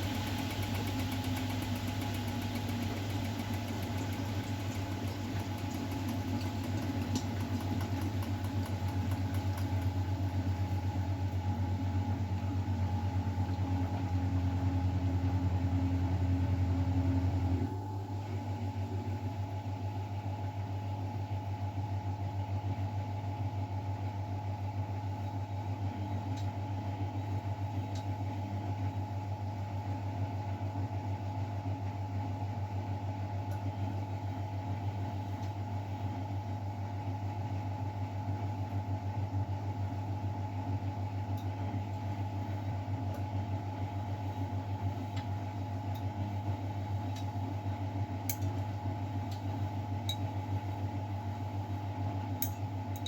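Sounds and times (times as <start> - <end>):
washing machine humming: 0.0 - 53.0.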